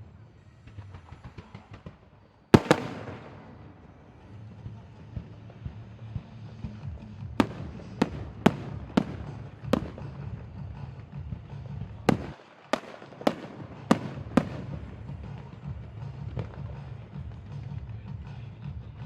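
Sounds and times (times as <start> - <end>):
fireworks bursting with bangs: 0.8 - 17.6.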